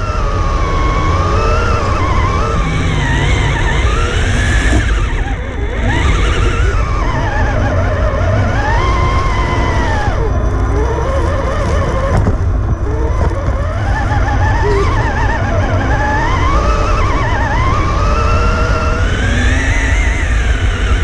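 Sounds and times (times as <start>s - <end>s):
electric motor whining: 0.0s - 21.0s
low drivetrain rumble: 0.0s - 21.0s.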